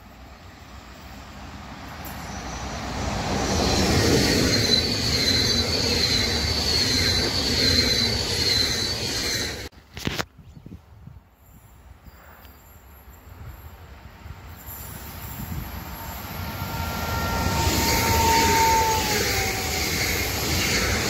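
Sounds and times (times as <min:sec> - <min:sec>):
high train whine: 0:00.0 - 0:09.7, 0:11.3 - 0:21.0
train wheels rumbling on rail: 0:00.0 - 0:09.7, 0:12.2 - 0:21.0.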